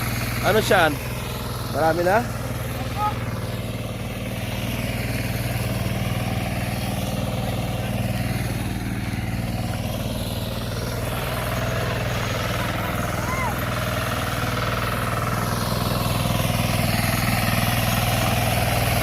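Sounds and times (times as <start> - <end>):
hand tractor engine running: 0.0 - 19.0.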